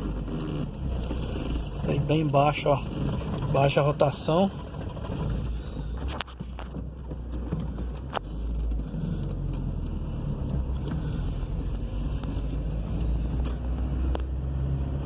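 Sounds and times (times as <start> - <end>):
car engine pulling away: 0.0 - 15.0.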